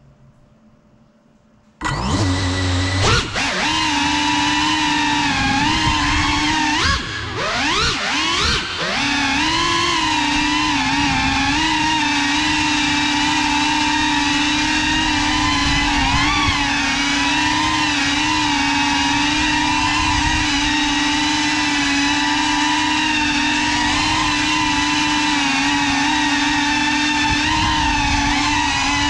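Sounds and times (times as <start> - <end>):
drone motors whining: 1.8 - 29.0.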